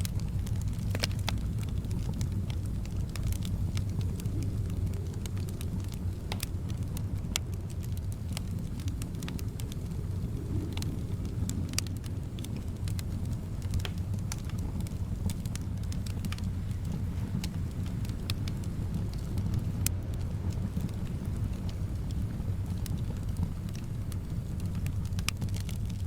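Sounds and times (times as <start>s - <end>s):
soft wind: 0.0s - 26.0s
wood fire crackling: 0.0s - 26.0s.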